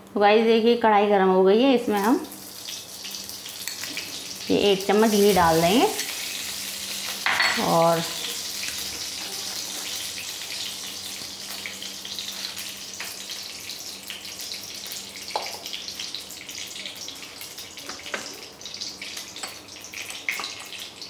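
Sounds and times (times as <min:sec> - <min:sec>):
ghee sizzling in a pan: 0:01.8 - 0:21.0.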